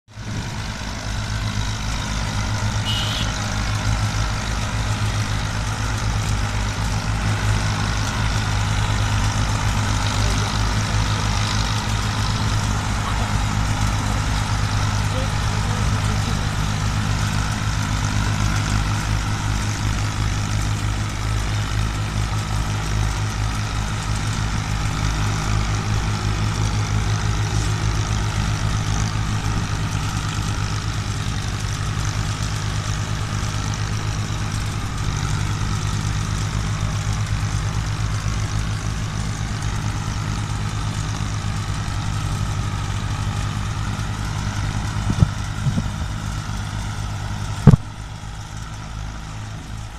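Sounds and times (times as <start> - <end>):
tractor diesel engines chugging: 0.1 - 49.9.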